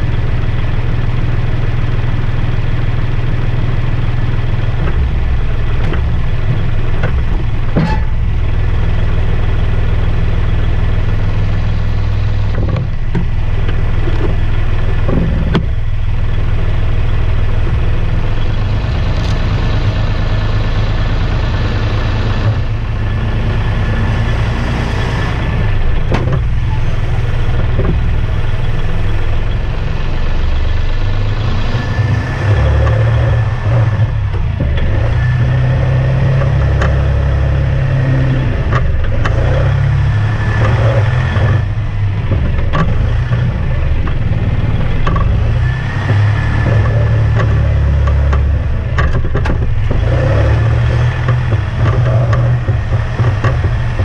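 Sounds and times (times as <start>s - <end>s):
clanks and rattles: 0.0s - 54.0s
tractor diesel engine: 0.0s - 54.0s.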